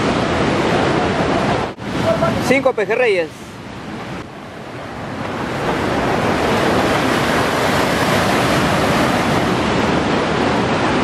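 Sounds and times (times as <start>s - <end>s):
surf breaking over rocks: 0.0s - 11.0s.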